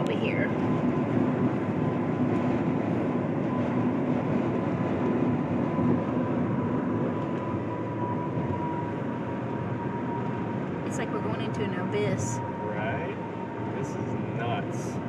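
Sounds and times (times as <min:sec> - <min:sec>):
faint steady whine: 0:00.0 - 0:15.0
road and engine rumble in car: 0:00.0 - 0:15.0.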